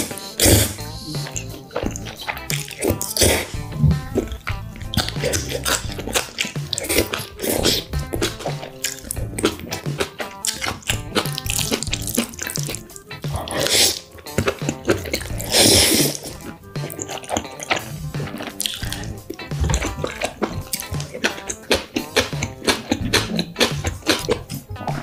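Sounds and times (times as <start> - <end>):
background music with steady beat: 0.0 - 25.0
noodles slurping and chewing: 0.0 - 25.0.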